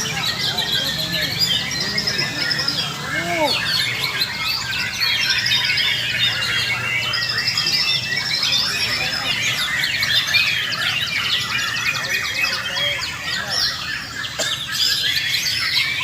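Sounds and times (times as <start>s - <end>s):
birds singing in chorus: 0.0s - 16.0s.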